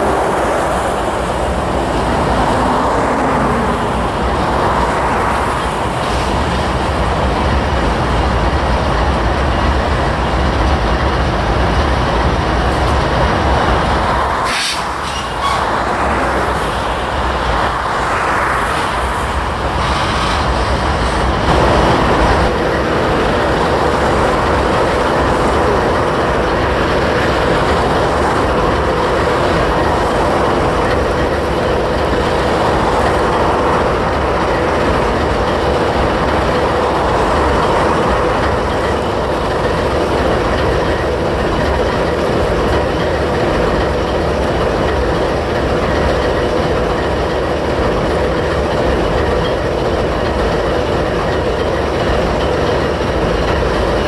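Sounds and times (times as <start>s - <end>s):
freight train rumbling: 0.0s - 54.0s
wheels on rails: 0.0s - 54.0s.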